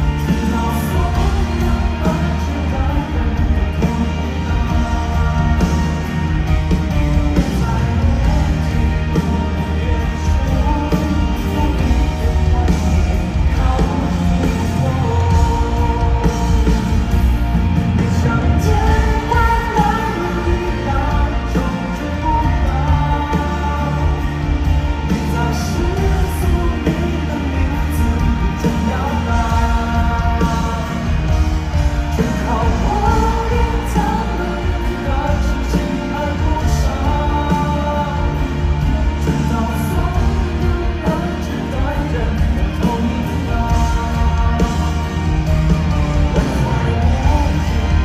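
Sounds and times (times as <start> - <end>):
live band with heavy bass beat: 0.0 - 48.0
person singing: 0.0 - 48.0.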